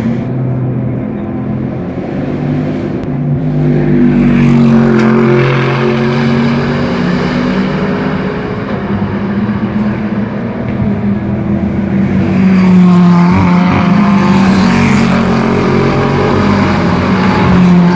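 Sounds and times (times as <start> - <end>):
race car engines running: 0.0 - 17.9.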